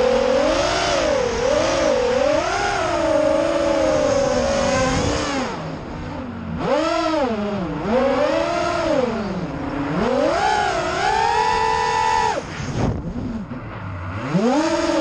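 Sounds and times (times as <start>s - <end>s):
quadcopter motors whining: 0.0s - 13.4s.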